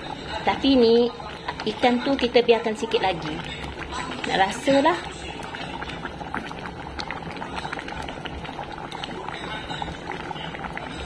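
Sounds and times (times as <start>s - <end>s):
curry bubbling in a pan: 0.0s - 11.0s.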